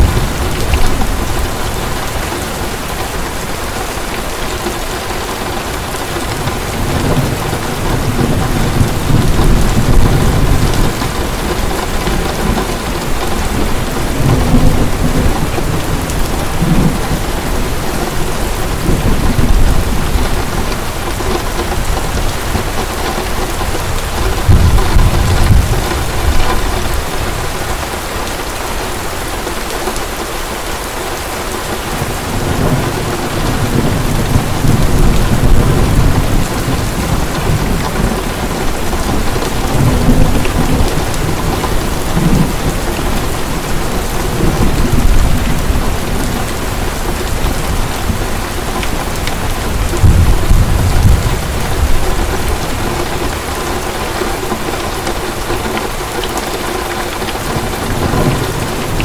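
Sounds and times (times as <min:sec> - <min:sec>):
low rolling thunder: 0:00.0 - 0:03.6, 0:05.7 - 0:28.2, 0:31.9 - 0:56.2, 0:57.1 - 0:59.0
heavy rain falling: 0:00.0 - 0:59.0.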